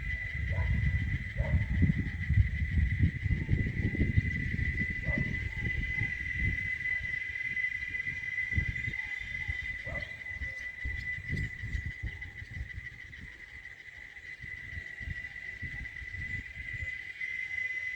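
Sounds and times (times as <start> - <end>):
cicadas buzzing: 0.0 - 17.9.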